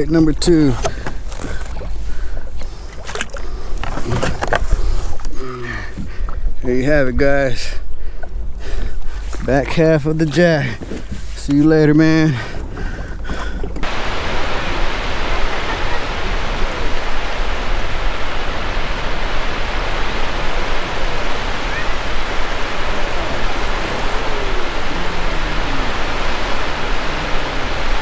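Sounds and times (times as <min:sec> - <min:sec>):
surf: 0:00.0 - 0:28.0
wind: 0:00.0 - 0:28.0.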